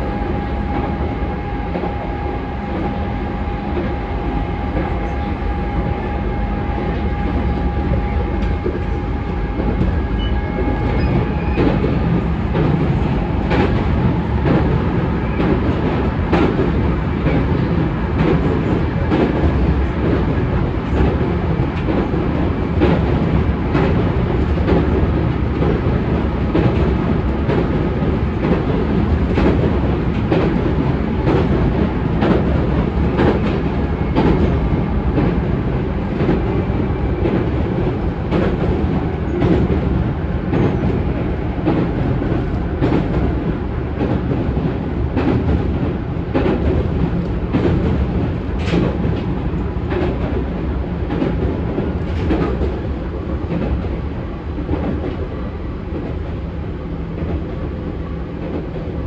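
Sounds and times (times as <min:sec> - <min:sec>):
rail-joint clacks: 0:00.0 - 0:59.0
train wheels rumbling on rail: 0:00.0 - 0:59.0.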